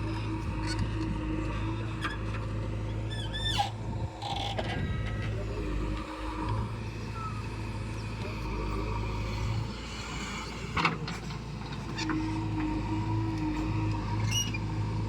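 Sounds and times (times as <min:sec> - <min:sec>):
heavy vehicle engine hum: 0:00.0 - 0:15.0.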